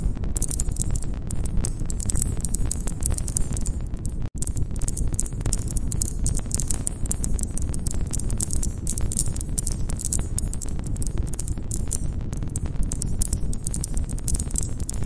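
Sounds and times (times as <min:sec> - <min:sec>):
low rumble of flames: 0:00.0 - 0:15.0
burning logs crackling: 0:00.4 - 0:15.0.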